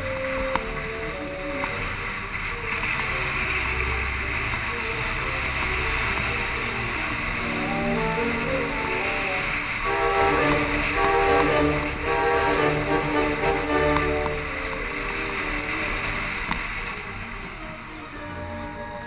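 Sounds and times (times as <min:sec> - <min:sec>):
background music of held notes: 0:00.0 - 0:19.0
low rumble and hiss: 0:00.0 - 0:19.0.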